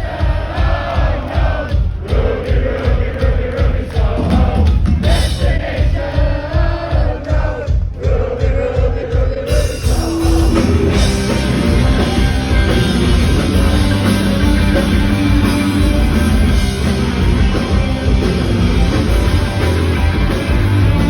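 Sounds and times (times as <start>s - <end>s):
punk rock band playing live: 0.0s - 21.0s.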